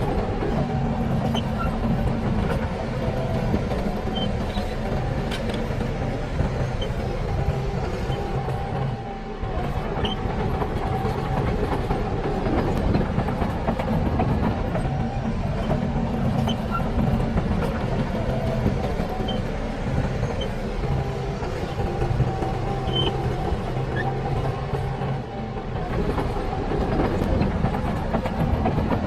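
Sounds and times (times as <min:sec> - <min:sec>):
bulldozer diesel engine drone: 0:00.0 - 0:29.0.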